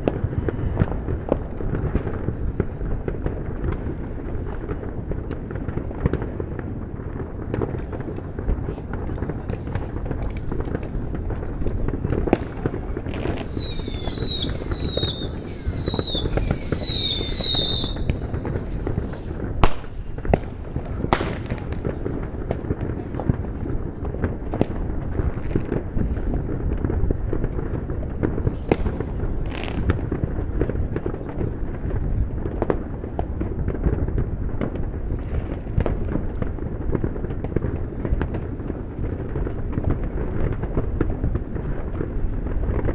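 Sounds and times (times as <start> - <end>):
firecrackers crackling: 0.0 - 42.9
fireworks bangs: 0.0 - 42.9
whistling fireworks: 0.0 - 42.9.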